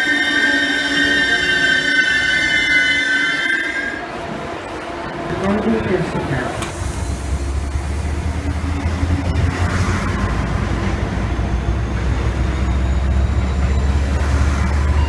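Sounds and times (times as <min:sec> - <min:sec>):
train rolling past: 0:00.0 - 0:15.0.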